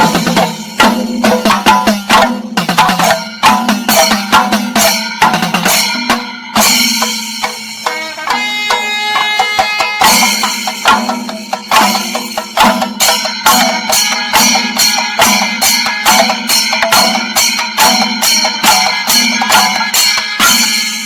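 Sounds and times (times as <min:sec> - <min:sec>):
chenda drums: 0:00.0 - 0:21.0
hand cymbals: 0:00.0 - 0:21.0.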